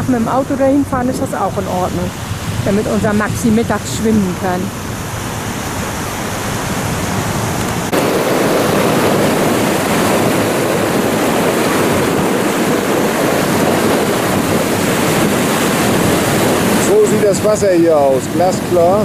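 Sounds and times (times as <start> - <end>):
waves breaking on rocky shore: 0.0 - 19.0
wind: 0.0 - 19.0.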